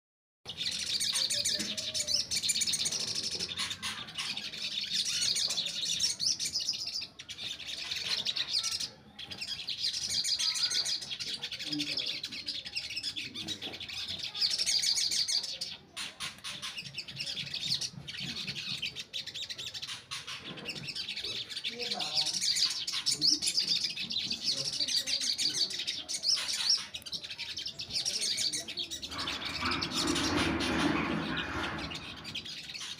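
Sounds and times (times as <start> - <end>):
bird chirping and trilling: 0.5 - 32.9.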